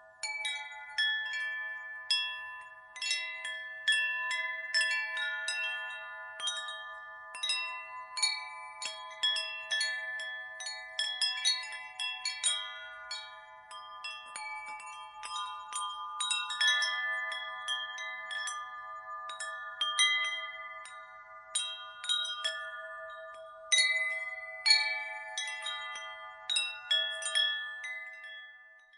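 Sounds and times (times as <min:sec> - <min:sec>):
wind chimes ringing: 0:00.0 - 0:28.9.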